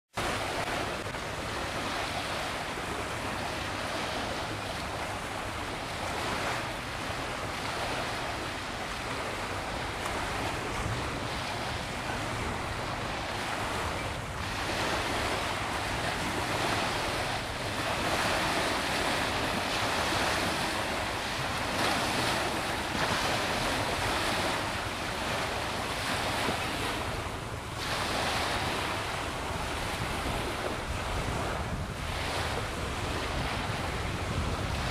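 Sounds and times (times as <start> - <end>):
small waves on water: 0.1 - 34.9
wind on microphone: 0.2 - 34.9.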